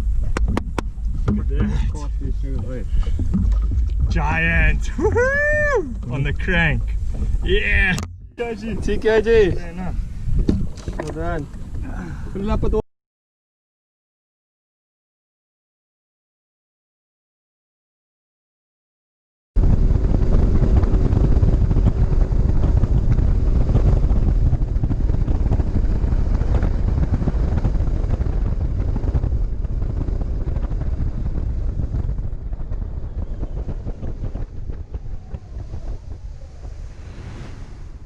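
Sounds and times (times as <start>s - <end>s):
boat engine rumble: 0.0s - 12.8s, 19.6s - 38.0s
wind buffeting microphone: 0.0s - 12.8s, 19.6s - 38.0s.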